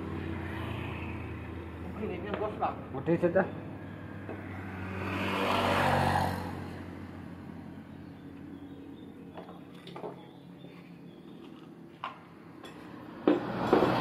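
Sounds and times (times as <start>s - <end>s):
vehicle passing by: 0.0s - 9.3s, 10.9s - 14.0s.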